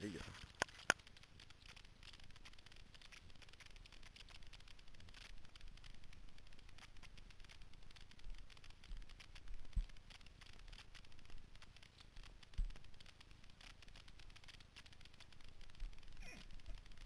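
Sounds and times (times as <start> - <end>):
microphone rubbing crackle: 0.0 - 17.0.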